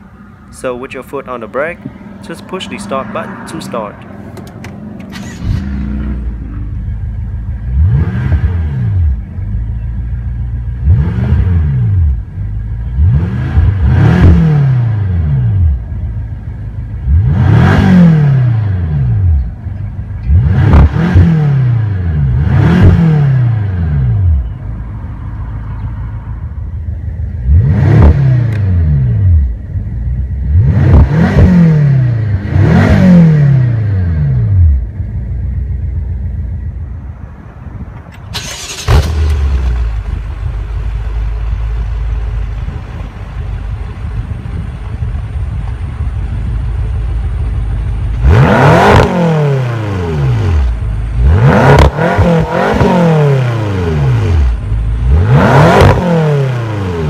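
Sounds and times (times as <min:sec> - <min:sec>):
car engine revving: 0:00.0 - 0:57.0
car engine starting and idling: 0:00.0 - 0:57.0.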